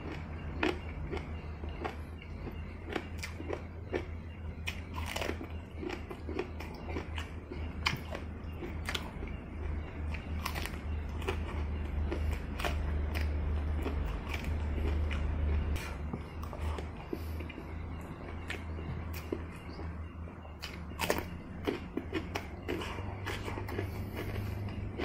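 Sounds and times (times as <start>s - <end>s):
chewing crunchy food: 0.0s - 25.0s
steady low hum: 0.0s - 25.0s.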